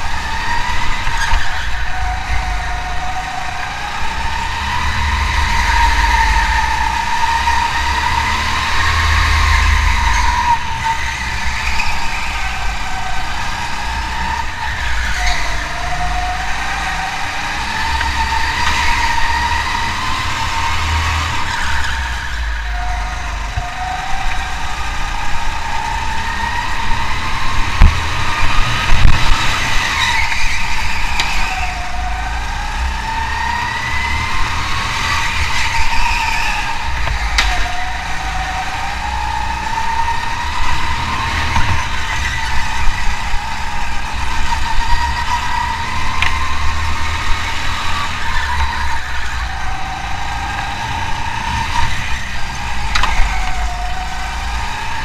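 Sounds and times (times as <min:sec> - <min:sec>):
racing engine revving: 0:00.0 - 0:55.0.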